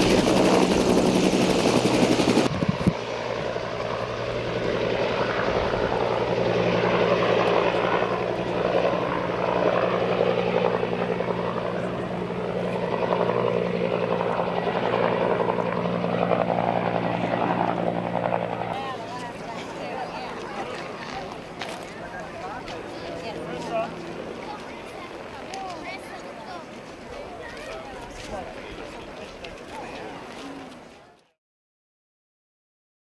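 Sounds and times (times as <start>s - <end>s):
aircraft engines droning: 0.0s - 31.2s.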